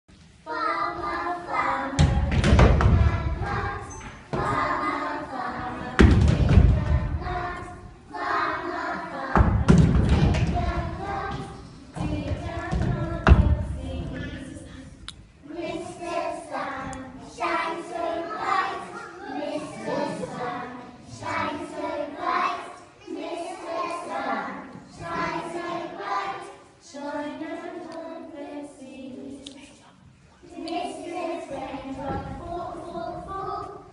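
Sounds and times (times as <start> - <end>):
young children singing: 0.2 - 33.9.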